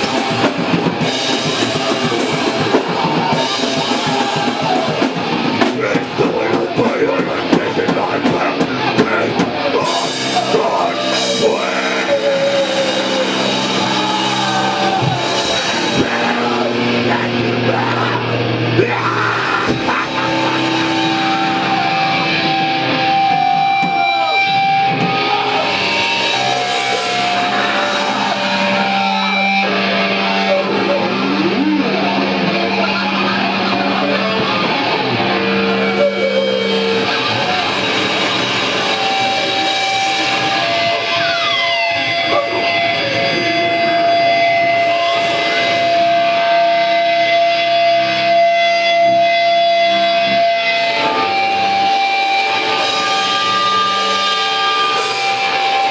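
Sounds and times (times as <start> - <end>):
bass guitar: 0.0 - 55.9
distorted electric guitars: 0.0 - 55.9
drums: 0.0 - 55.9.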